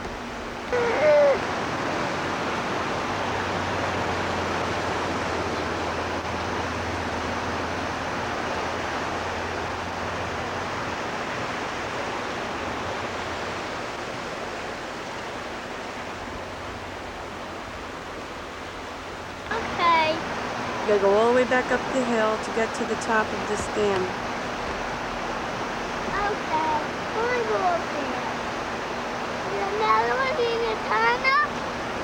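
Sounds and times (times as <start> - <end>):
low steady hum: 0.0 - 32.0
rushing water: 0.0 - 32.0.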